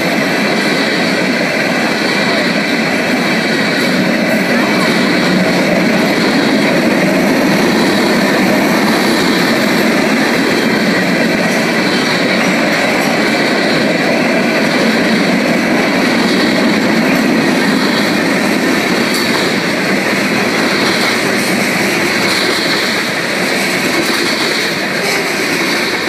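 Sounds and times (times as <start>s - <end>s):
freight train cars rolling on rails: 0.0s - 26.0s.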